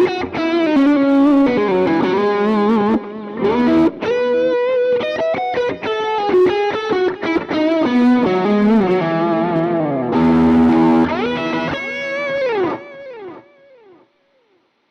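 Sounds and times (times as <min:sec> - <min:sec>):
distorted electric guitar lead: 0:00.0 - 0:14.0.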